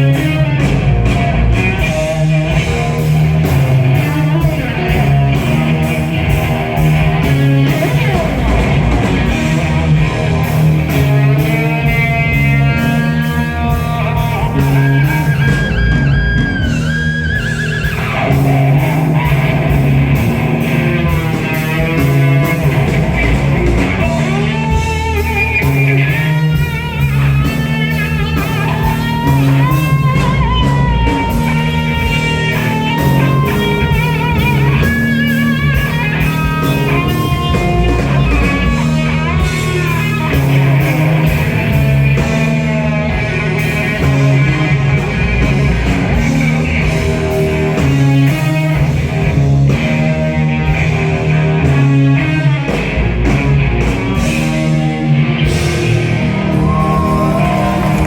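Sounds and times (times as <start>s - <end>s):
bass line: 0.0s - 58.0s
drum kit: 0.0s - 58.0s
electric guitar solo: 0.0s - 58.0s.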